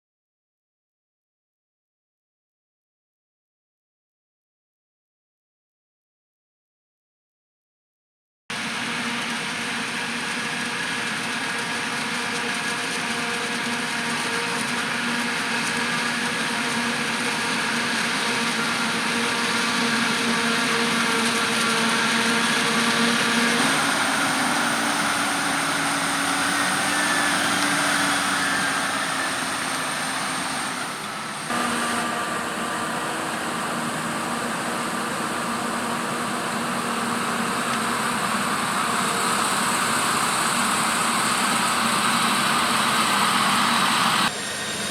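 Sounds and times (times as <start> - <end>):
diesel farm machinery engines: 8.5 - 44.9.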